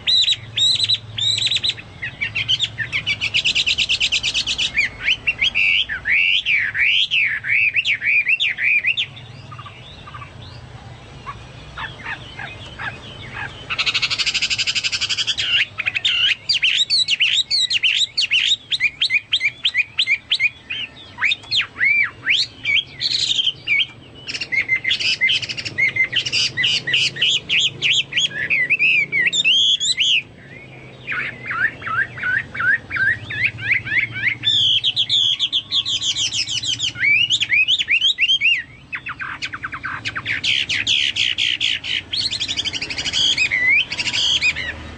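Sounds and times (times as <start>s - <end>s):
harsh buzzy bird call: 0.0s - 44.9s
songbird whistling song: 0.0s - 44.9s.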